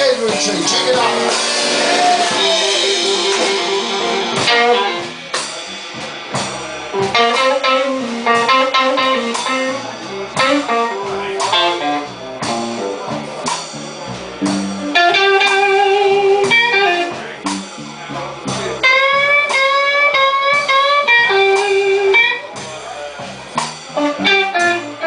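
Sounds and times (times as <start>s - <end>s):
electric guitar blues lead: 0.0s - 25.0s
live band playing: 0.0s - 25.0s.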